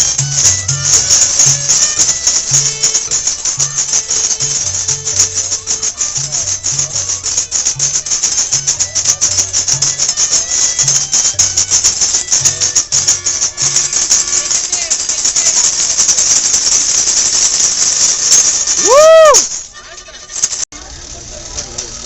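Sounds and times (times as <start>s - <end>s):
bright shaking rattle: 0.0s - 22.0s
folk string band playing: 0.0s - 22.0s.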